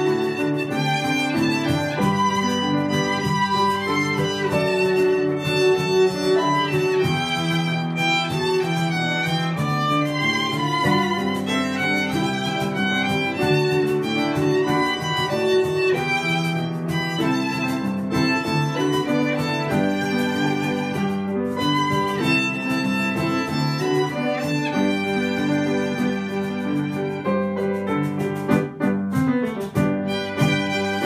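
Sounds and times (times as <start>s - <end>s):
violins playing melody: 0.0s - 28.7s, 29.6s - 31.0s
hand drum beat: 0.0s - 31.0s
piano accompaniment: 0.0s - 31.0s.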